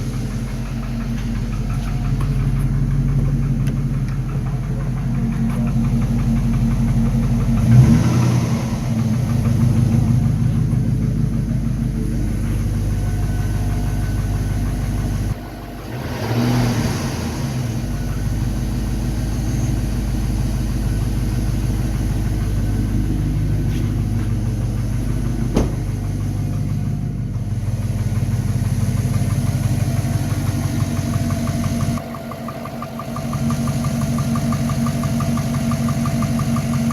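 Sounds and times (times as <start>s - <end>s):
car engine idling and revving: 0.0s - 36.9s
engine knocking: 0.0s - 36.9s.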